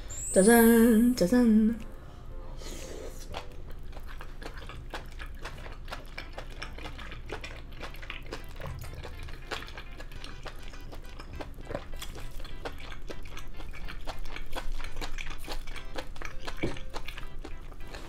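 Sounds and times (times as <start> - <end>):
close-up chewing squelches: 2.8 - 18.0.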